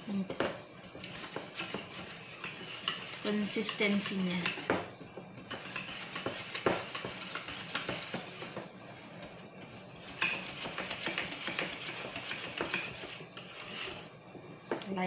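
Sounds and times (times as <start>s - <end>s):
whisk scraping and clicking in bowl: 0.3s - 14.1s.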